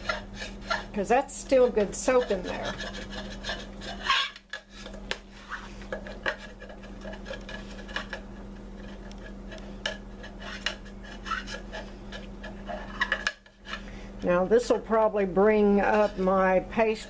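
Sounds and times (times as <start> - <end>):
spoon scraping ceramic pot: 0.0 - 13.8
steady low hum: 0.0 - 17.0.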